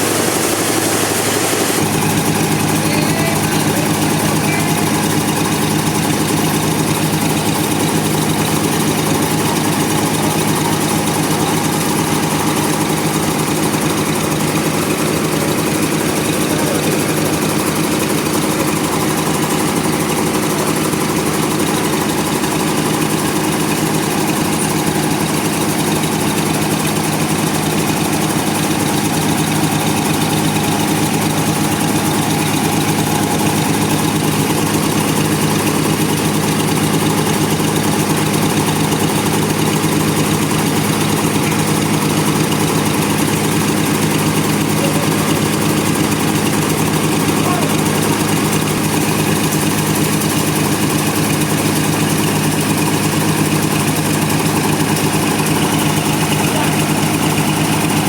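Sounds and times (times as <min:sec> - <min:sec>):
sawmill engine running: 0:00.0 - 0:58.0.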